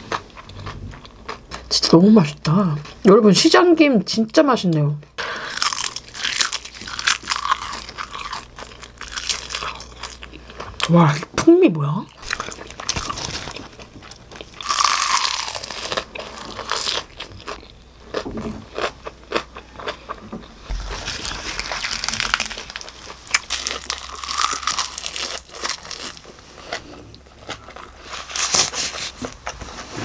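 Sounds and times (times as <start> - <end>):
crunching and chewing: 0.0 - 1.8, 5.2 - 11.3, 12.0 - 29.8.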